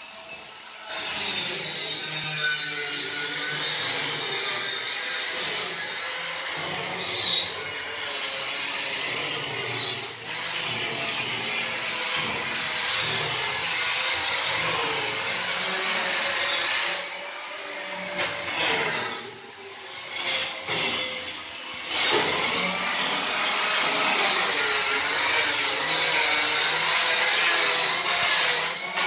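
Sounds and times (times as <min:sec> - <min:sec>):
power tool whining: 0:00.9 - 0:29.0.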